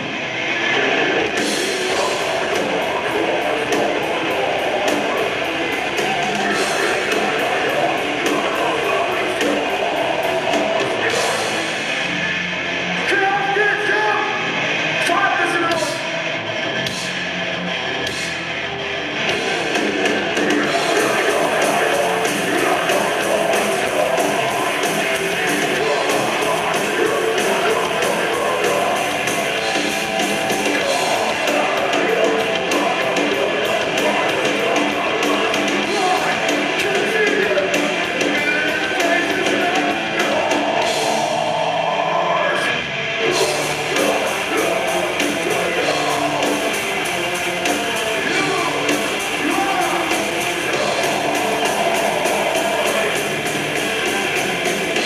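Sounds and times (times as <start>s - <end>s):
distorted electric guitars: 0.0s - 55.0s
drums: 0.0s - 55.0s
metalcore song: 0.0s - 55.0s
vocals: 0.0s - 55.0s.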